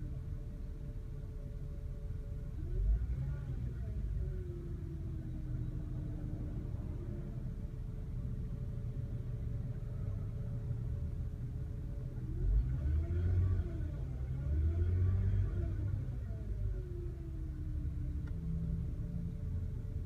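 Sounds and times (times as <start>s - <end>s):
car engine rumbling and revving: 0.0s - 20.0s
engine whine: 0.0s - 20.0s.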